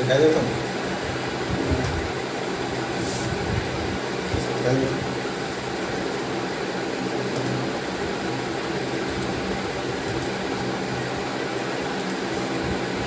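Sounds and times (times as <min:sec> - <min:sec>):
fan noise with low hum: 0:00.0 - 0:13.0.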